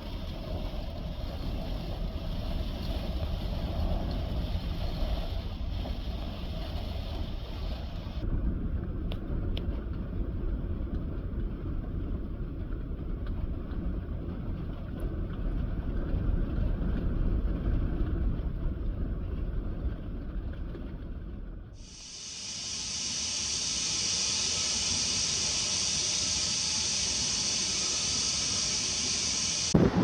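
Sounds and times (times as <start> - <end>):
storm wind buffeting: 0.0 - 20.3, 23.4 - 30.0.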